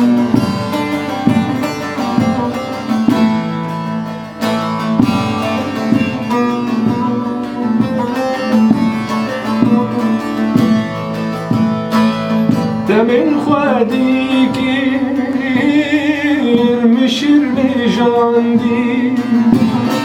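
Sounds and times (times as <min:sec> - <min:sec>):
plucked string instrument melody: 0:00.0 - 0:20.0
steady beat: 0:00.0 - 0:20.0.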